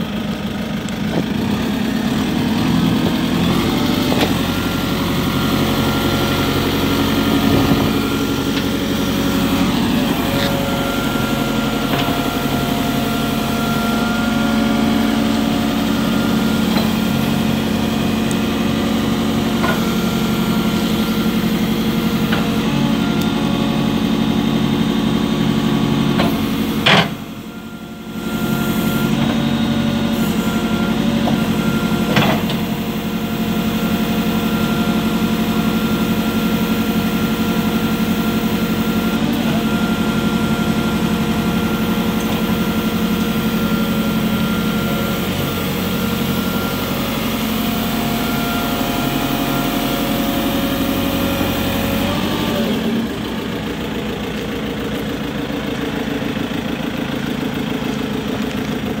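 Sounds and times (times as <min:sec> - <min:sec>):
diesel engine running: 0:00.0 - 0:59.0
hydraulic arm working: 0:00.0 - 0:59.0.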